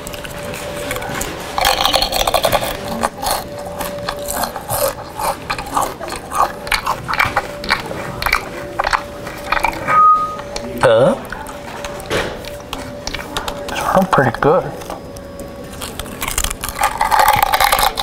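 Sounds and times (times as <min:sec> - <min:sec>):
chewing through a megaphone: 0:00.0 - 0:18.0.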